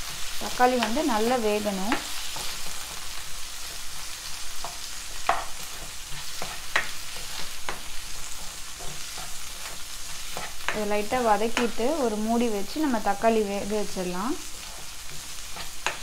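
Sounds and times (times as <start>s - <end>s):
spatula clicking and scraping pan: 0.0s - 11.9s, 14.4s - 16.0s
onions sizzling in hot oil: 0.0s - 16.0s.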